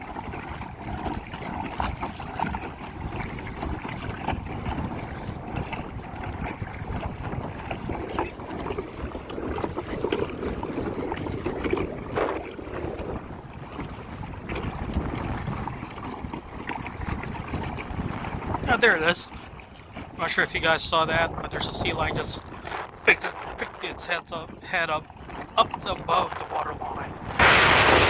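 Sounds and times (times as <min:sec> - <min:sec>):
water lapping around kayak: 0:00.0 - 0:28.0
wind buffeting microphone: 0:00.0 - 0:28.0.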